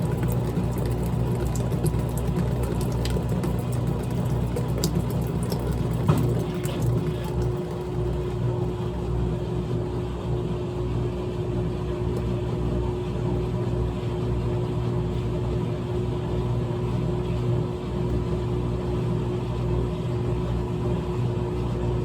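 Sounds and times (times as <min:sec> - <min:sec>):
washing machine churning: 0:00.0 - 0:22.0
washing machine motor hum: 0:00.0 - 0:22.0.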